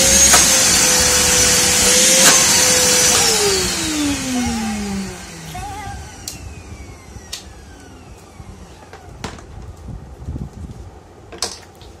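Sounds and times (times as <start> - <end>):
vacuum motor whine coasting down: 0.0 - 9.8.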